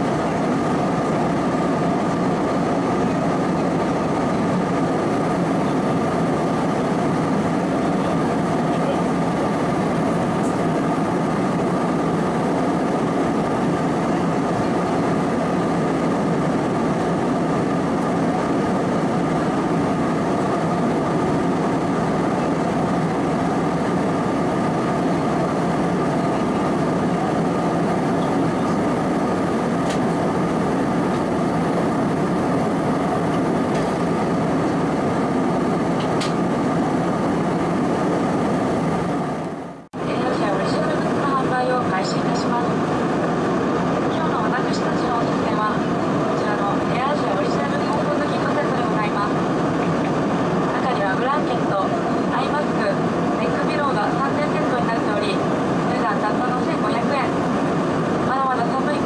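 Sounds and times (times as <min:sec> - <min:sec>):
airplane cabin drone: 0:00.0 - 0:59.0
faint steady whine: 0:00.0 - 0:59.0.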